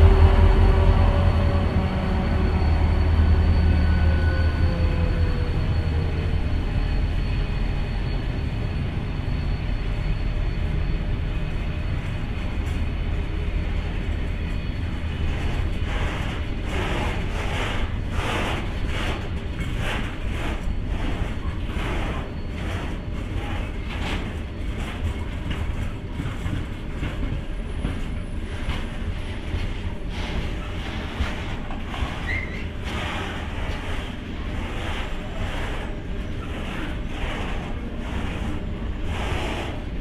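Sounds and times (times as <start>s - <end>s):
locomotive engine hum: 0.0s - 40.0s.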